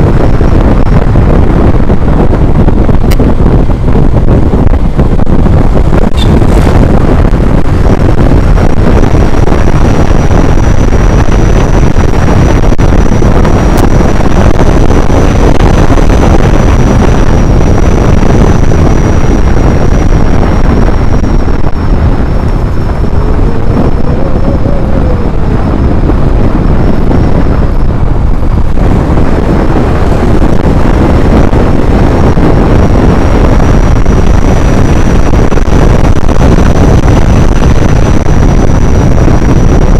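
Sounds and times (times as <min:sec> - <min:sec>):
faint high whine: 0:00.0 - 0:39.9
wind buffeting microphone: 0:00.0 - 0:39.9.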